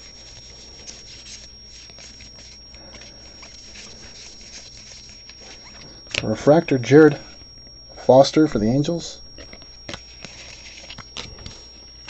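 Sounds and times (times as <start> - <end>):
trading cards rustling: 0.0 - 12.0.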